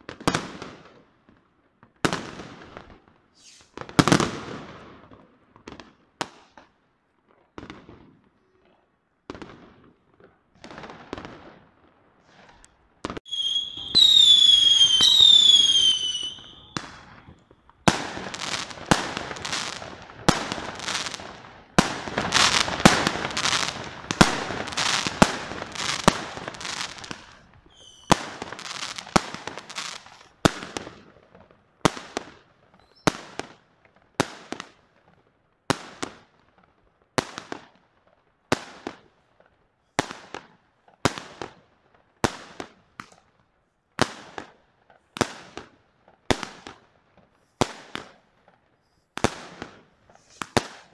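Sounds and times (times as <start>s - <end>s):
fireworks bangs and crackle: 0.0s - 43.4s, 44.0s - 50.9s.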